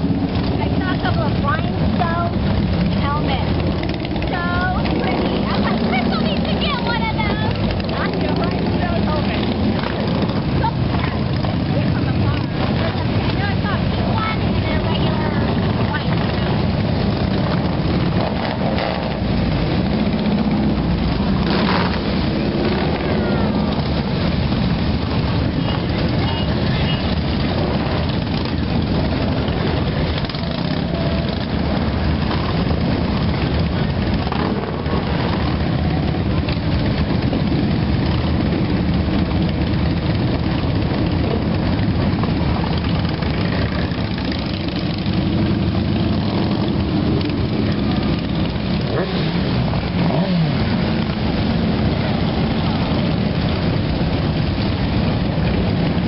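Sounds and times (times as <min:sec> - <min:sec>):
motorcycle engine revving: 0:00.0 - 0:56.0
motorcycle engines running: 0:00.0 - 0:56.0.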